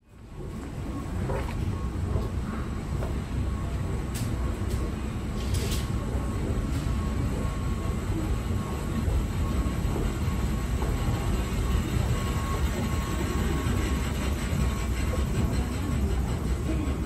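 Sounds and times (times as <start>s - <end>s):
faint mechanical whine: 0.0s - 17.0s
escalator mechanical rumble: 0.2s - 17.0s.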